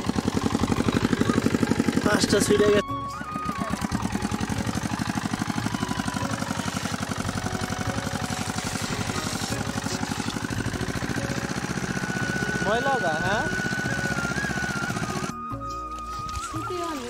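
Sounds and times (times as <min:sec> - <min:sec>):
water pump engine chugging: 0:00.0 - 0:17.0.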